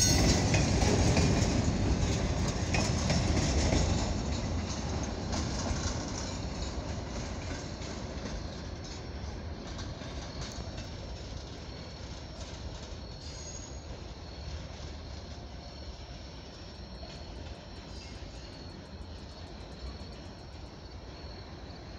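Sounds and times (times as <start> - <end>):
freight train rumbling on rails: 0.0 - 21.9.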